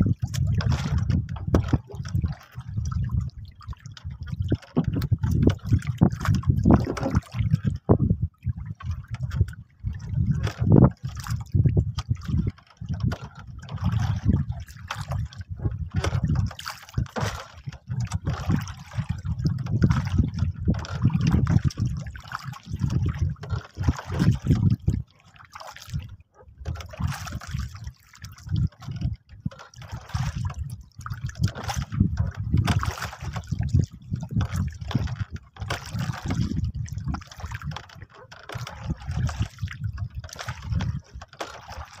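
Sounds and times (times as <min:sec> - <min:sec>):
water lapping against a boat: 0:00.0 - 0:42.0.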